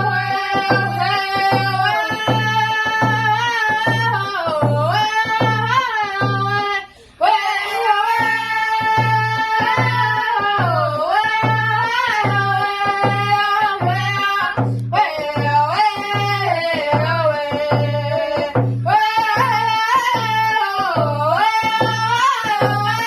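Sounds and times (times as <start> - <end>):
high voice singing: 0.0 - 23.0
steady drum beat: 0.0 - 23.0.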